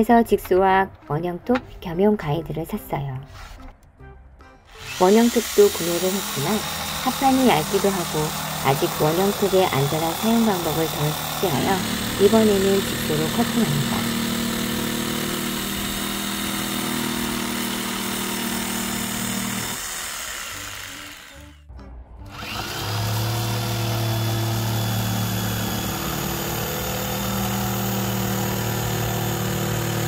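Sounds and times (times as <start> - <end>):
jigsaw cutting plywood: 4.7 - 21.6, 22.3 - 30.0.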